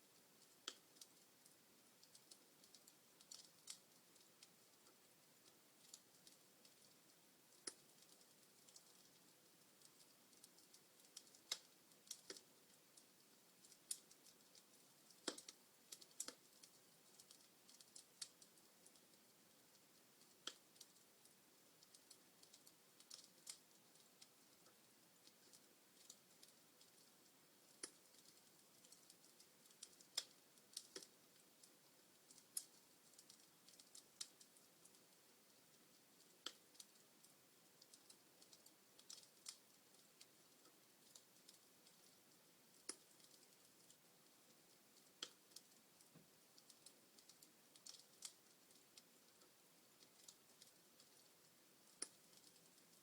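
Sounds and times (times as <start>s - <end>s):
log fire crackling and popping: 0.1s - 53.0s.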